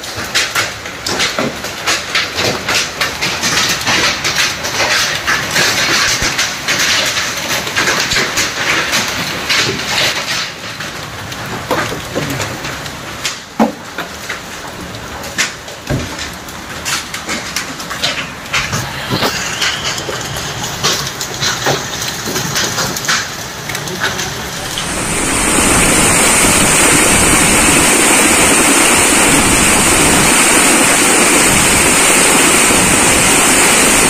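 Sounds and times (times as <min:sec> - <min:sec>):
hailstones pelting down: 0:00.0 - 0:34.0.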